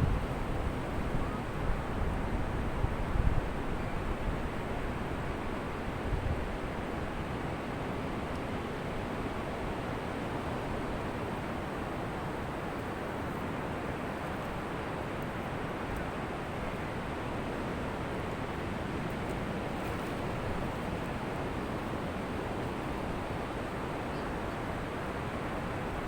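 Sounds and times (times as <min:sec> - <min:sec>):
ocean surf on beach: 0:00.0 - 0:26.0.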